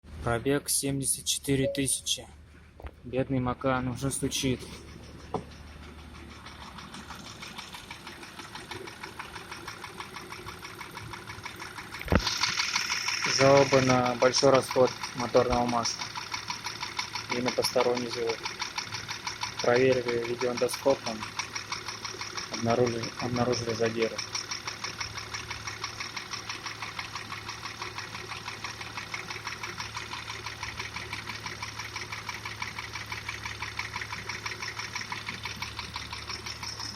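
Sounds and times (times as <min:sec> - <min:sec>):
engine idling with knock: 0:03.9 - 0:36.9.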